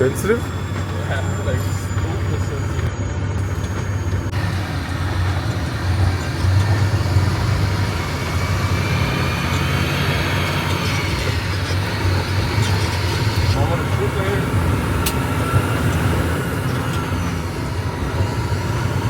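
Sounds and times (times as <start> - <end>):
diesel truck engine rumbling: 0.0 - 19.0
faint falling whine: 0.0 - 19.0.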